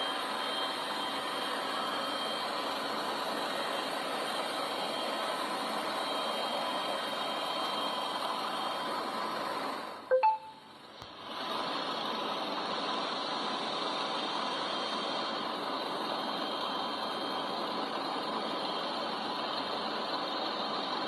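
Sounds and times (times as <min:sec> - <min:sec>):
helicopter engine and rotor noise: 0:00.0 - 0:21.0.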